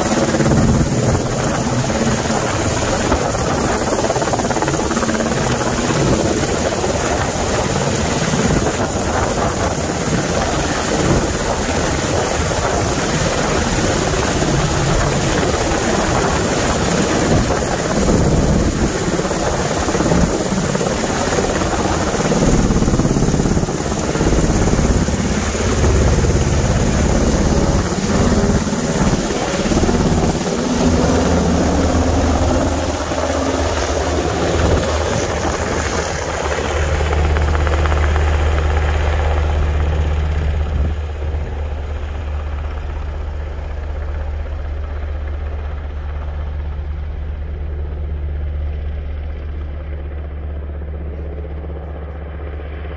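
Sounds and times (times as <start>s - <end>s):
helicopter rotor and turbine: 0.0s - 52.9s.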